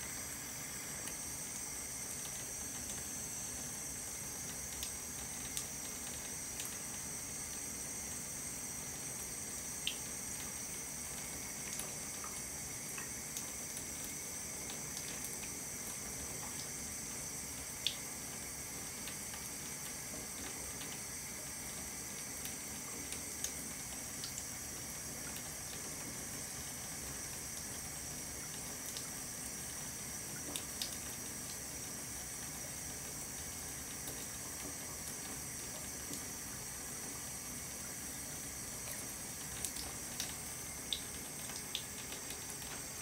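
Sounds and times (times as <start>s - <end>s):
water stream running into tub: 0.0s - 43.0s.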